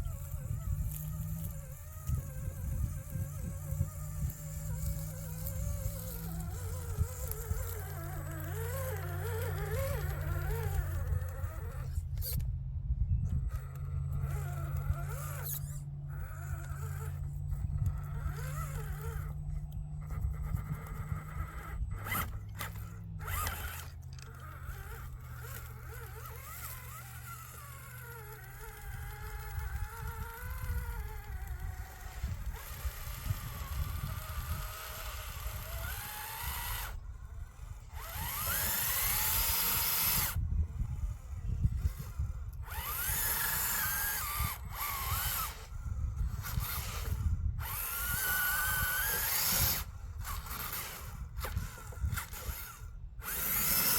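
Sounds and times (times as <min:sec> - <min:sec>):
toy car electric motor whining: 0:00.0 - 0:12.6, 0:13.2 - 0:53.9.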